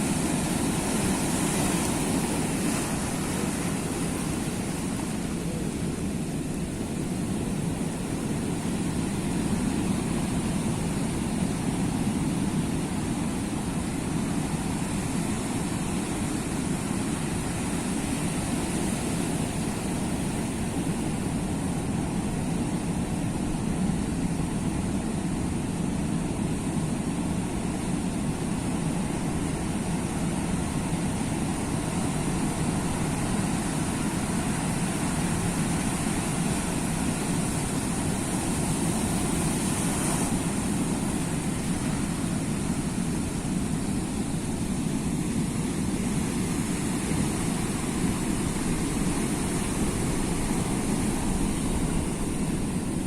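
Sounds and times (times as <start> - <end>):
sea surf roaring: 0.0 - 53.0.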